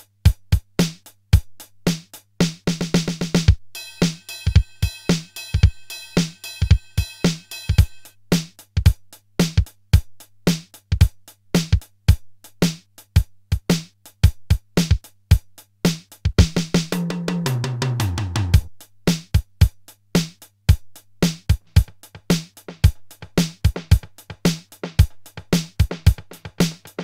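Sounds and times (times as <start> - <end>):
drum machine beat: 0.0 - 27.0.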